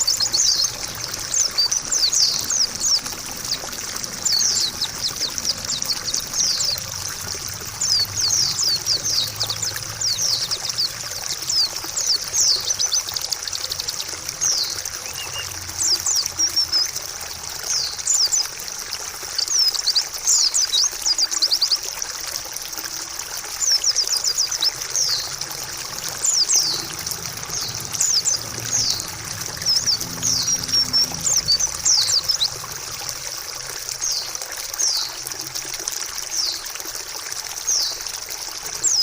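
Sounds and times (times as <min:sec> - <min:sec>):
bird chirps and trills: 0:00.0 - 0:18.6, 0:19.3 - 0:21.9, 0:23.6 - 0:35.5, 0:36.3 - 0:36.6, 0:37.6 - 0:38.1, 0:38.7 - 0:39.0
running water trickling: 0:00.0 - 0:39.0.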